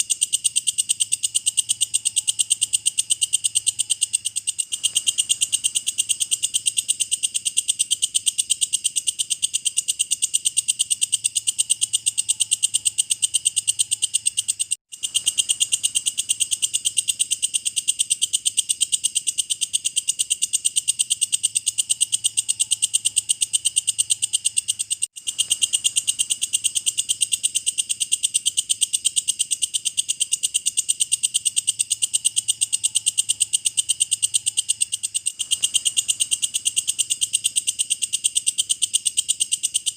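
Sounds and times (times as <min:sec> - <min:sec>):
grasshopper high-pitched trill: 0:00.0 - 0:39.9.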